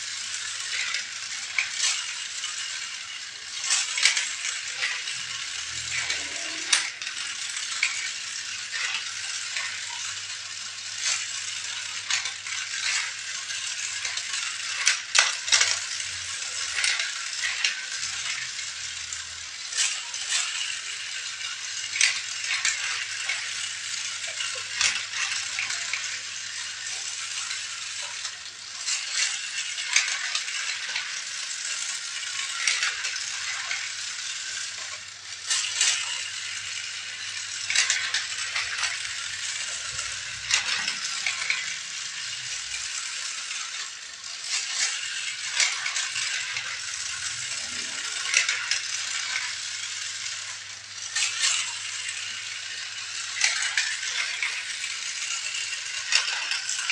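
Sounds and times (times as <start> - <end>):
small objects rattling: 0.0 - 56.9.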